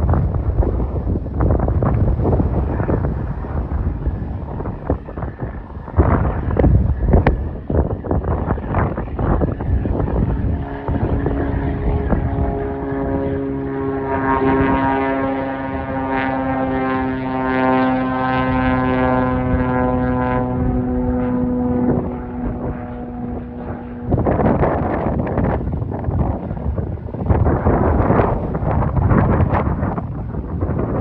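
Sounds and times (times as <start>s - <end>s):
propeller plane engine droning: 0.0s - 31.0s
wind rumbling on microphone: 0.0s - 31.0s.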